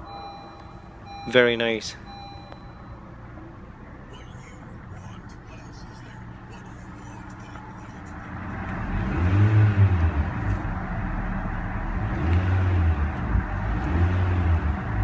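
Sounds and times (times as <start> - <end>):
car engine revving: 2.0 - 15.0.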